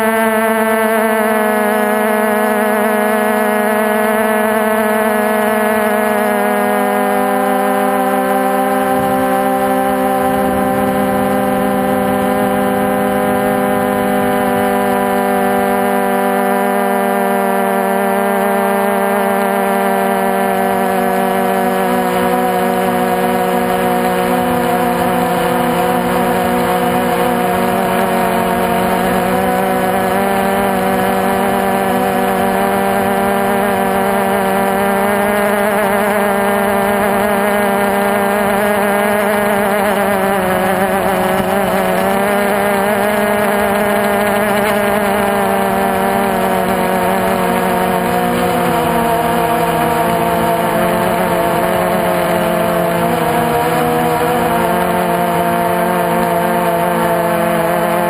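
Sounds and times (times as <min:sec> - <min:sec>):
drone motors humming: 0:00.0 - 0:58.0.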